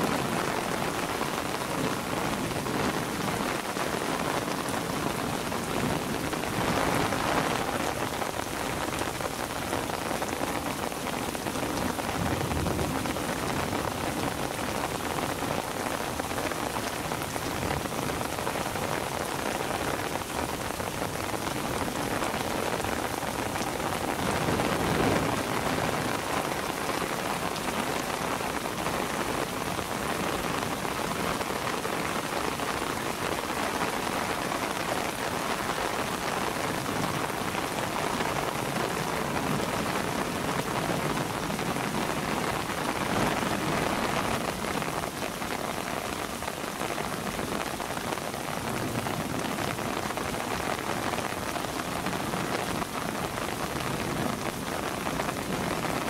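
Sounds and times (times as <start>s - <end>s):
rain on bushes and paving: 0.0s - 56.0s.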